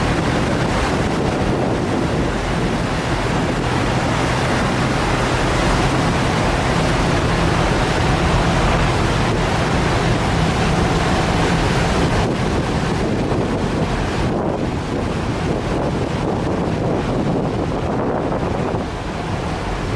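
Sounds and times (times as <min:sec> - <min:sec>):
churning water rushing: 0:00.0 - 0:19.9
ferry engines humming: 0:00.0 - 0:19.9
wind buffeting microphone: 0:00.0 - 0:19.9.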